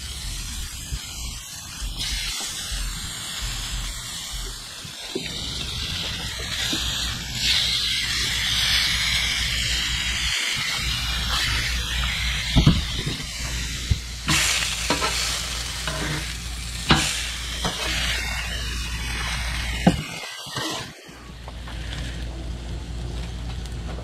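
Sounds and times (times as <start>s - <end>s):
low rumble: 0.0s - 20.2s
food sizzling on griddle: 0.0s - 24.0s.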